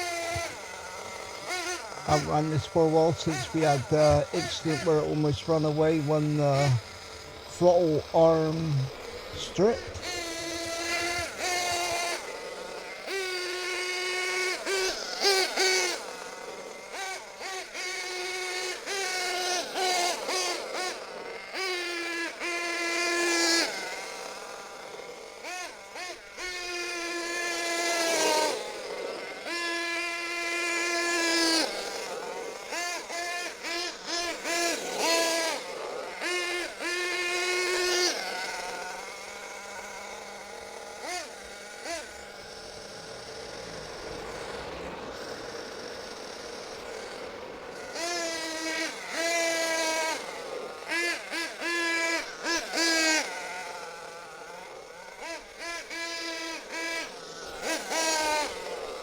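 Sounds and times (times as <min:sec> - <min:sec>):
nitro engine revving: 0:00.0 - 0:59.0.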